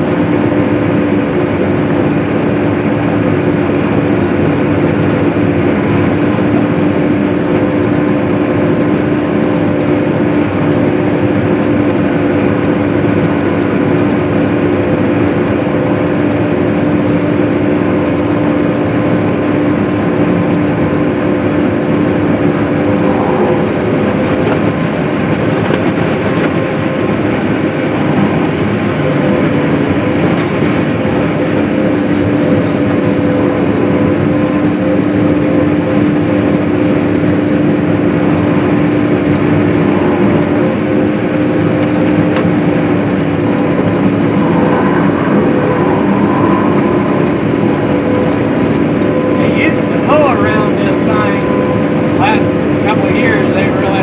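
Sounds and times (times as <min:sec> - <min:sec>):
swather engine droning: 0:00.0 - 0:54.0.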